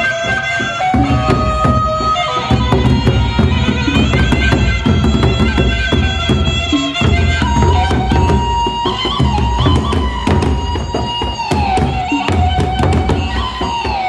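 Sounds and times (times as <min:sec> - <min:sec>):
reedy wind instrument melody: 0:00.0 - 0:14.0
barrel drums beaten with sticks: 0:00.8 - 0:14.0.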